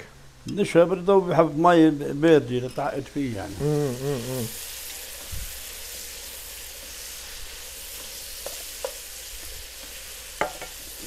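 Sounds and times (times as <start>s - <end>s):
vegetables sizzling in oil: 0.8s - 11.0s.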